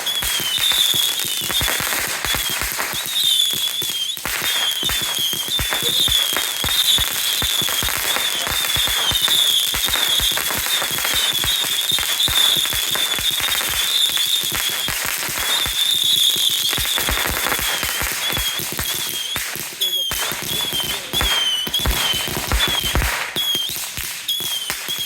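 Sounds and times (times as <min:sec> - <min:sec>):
firecrackers popping: 0:00.0 - 0:25.0.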